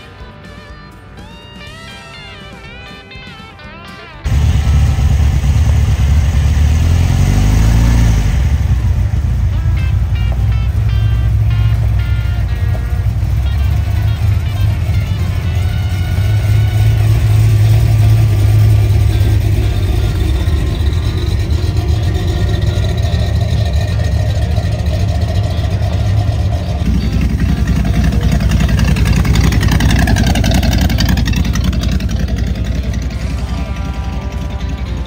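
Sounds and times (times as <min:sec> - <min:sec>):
hot rod engine: 0:00.0 - 0:35.0
car engine deep tone: 0:04.2 - 0:35.0.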